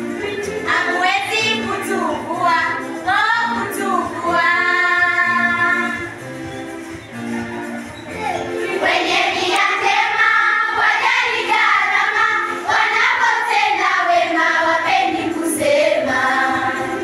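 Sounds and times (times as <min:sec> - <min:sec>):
girls choir singing: 0:00.1 - 0:06.1, 0:08.4 - 0:17.0.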